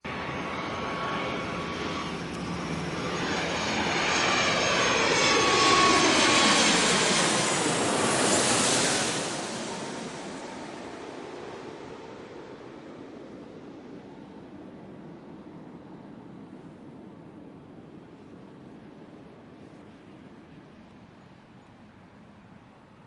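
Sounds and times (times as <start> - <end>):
airplane passing low overhead: 0.0 - 23.0.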